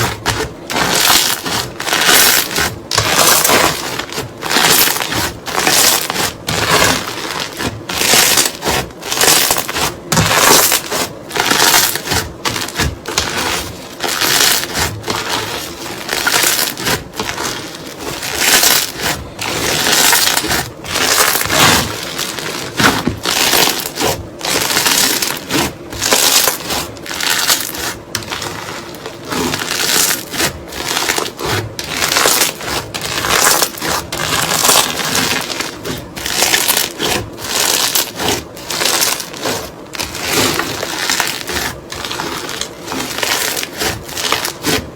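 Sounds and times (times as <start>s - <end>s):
crunchy slime crackling: 0.0s - 44.9s.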